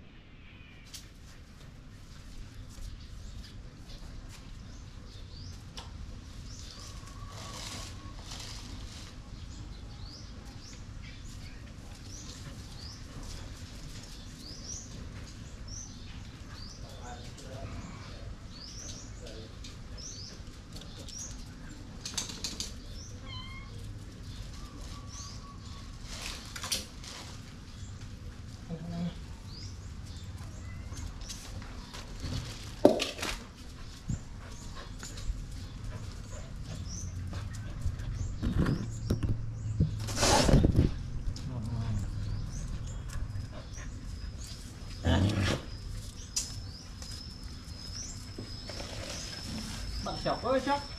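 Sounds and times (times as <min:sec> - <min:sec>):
small birds chirping: 0:00.4 - 0:50.9.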